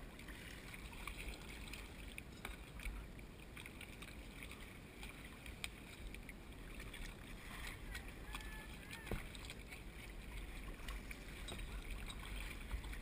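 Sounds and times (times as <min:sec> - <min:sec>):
water lapping around kayak: 0:00.0 - 0:13.0.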